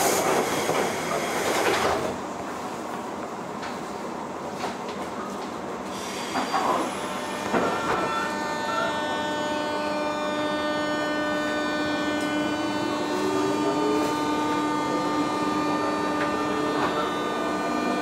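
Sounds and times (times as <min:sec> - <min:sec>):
train electrical hum: 0:00.0 - 0:18.0.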